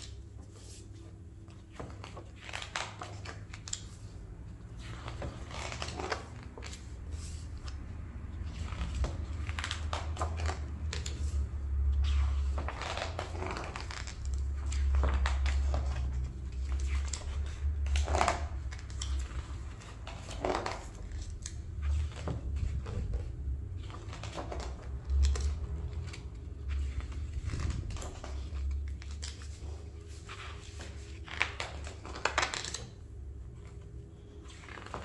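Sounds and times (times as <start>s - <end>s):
book pages turning: 0.0s - 35.0s.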